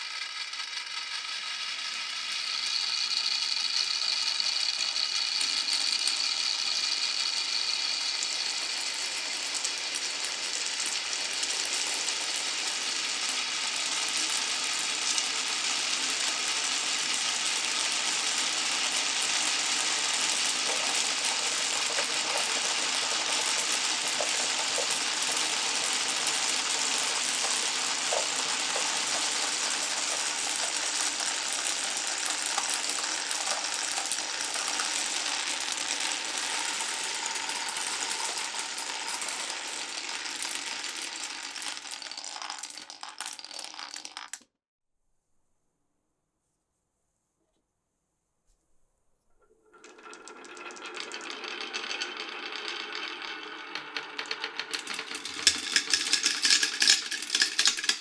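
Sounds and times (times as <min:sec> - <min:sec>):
marbles rolling and clicking: 0:00.0 - 0:44.4, 0:49.7 - 0:58.0.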